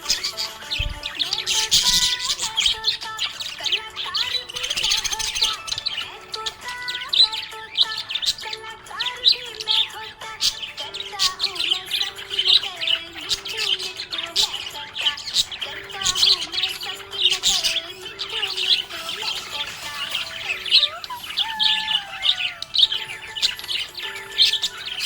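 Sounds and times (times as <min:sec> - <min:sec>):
budgerigars chirping: 0:00.0 - 0:25.0.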